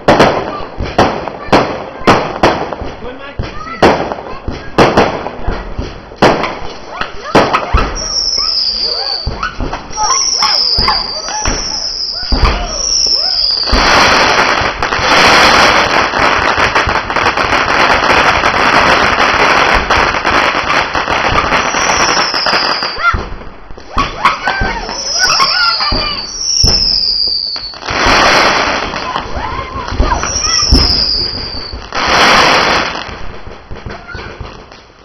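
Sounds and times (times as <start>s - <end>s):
fireworks crackling: 0.0s - 35.0s.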